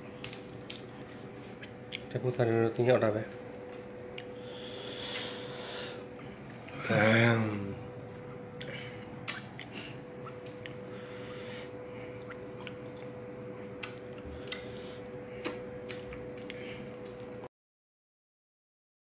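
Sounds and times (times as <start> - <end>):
steady hum: 0.0 - 17.5.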